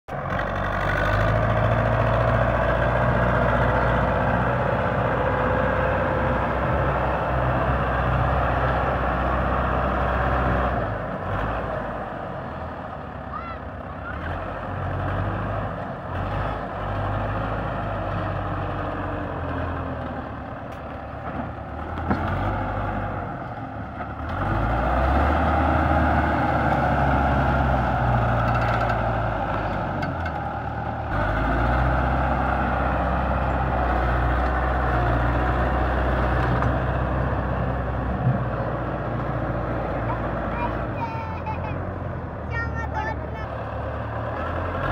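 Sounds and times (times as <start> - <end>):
tractor diesel engine under load: 0.1 - 44.9.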